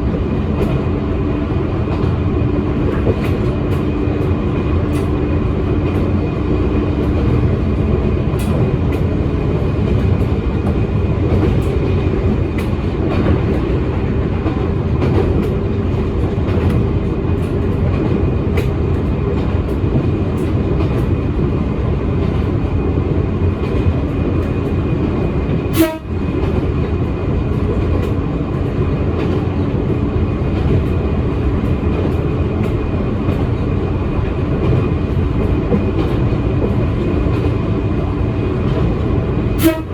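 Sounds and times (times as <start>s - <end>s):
clicks from train wheels: 0.0s - 39.9s
train motor and gear hum: 0.0s - 39.9s
wheels rumbling on rails: 0.0s - 39.9s.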